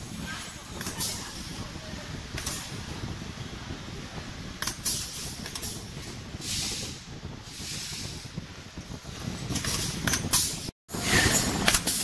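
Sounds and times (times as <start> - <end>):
factory hum: 0.0 - 12.0.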